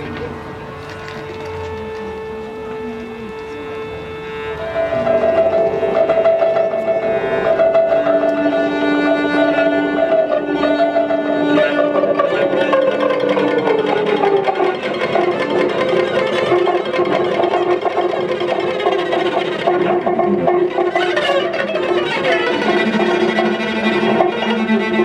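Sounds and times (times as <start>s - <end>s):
bowed string tones: 0.0s - 25.0s.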